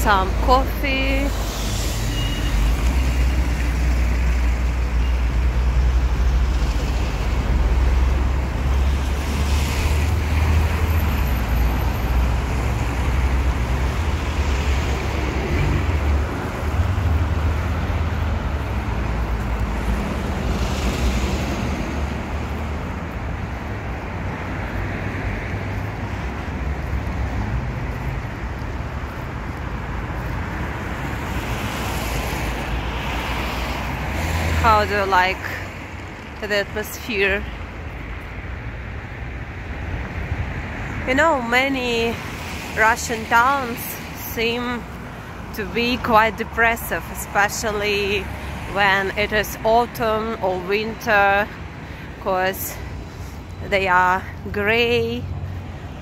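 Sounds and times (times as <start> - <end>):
cars passing by: 0.0 - 56.0.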